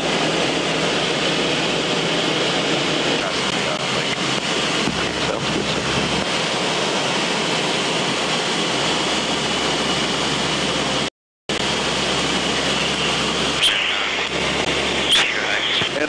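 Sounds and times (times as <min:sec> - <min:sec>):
airflow: 0:00.0 - 0:16.0
turboprop engines droning: 0:00.0 - 0:16.0.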